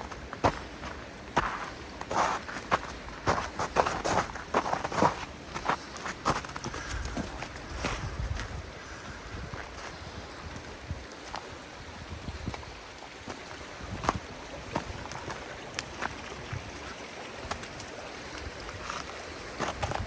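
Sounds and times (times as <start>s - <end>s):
footsteps on icy ground: 0.0s - 11.5s, 12.5s - 20.0s
babbling brook: 0.0s - 20.0s.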